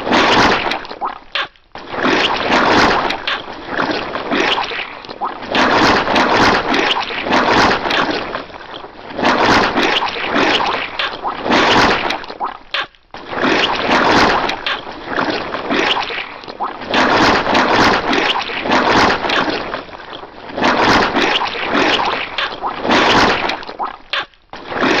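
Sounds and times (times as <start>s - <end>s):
cartoon wet squelching and splattering: 0.0s - 25.0s.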